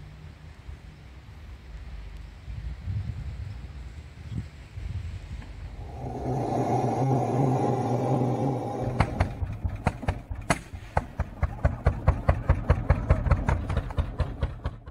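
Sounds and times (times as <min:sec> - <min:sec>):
locomotive exhaust beats: 0:01.3 - 0:14.9.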